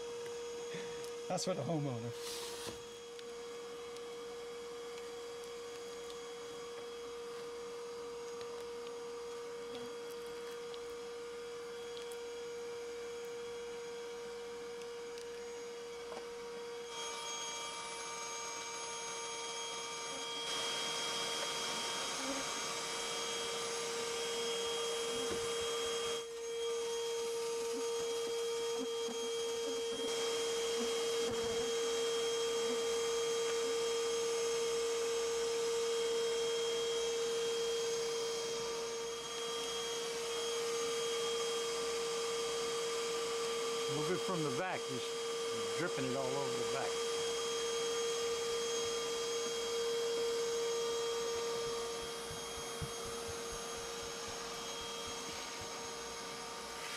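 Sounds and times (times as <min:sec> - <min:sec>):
vacuum motor hum: 0:00.0 - 0:56.9.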